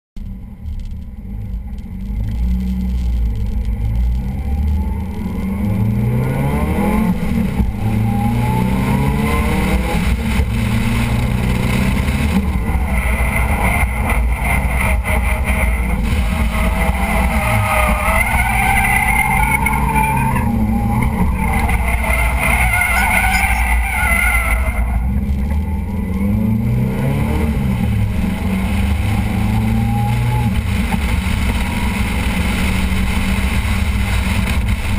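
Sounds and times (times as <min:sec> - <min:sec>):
car engine revving: 0:00.6 - 0:34.9
tires squealing: 0:02.1 - 0:34.9.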